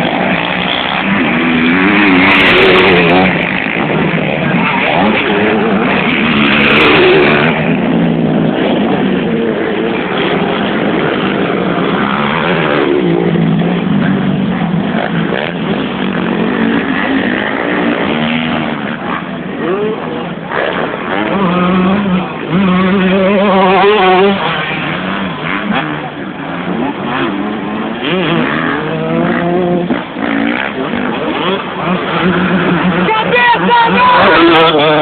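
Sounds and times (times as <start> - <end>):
motocross engines revving: 0.0 - 35.0.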